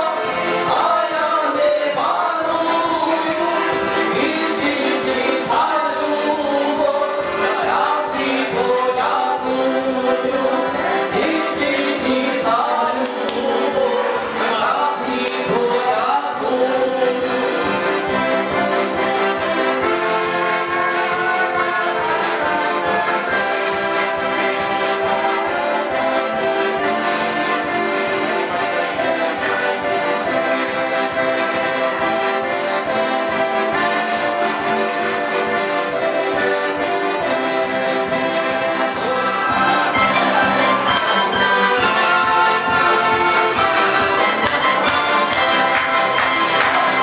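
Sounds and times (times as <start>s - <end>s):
accordion: 0.0s - 47.0s
acoustic guitar: 0.0s - 47.0s.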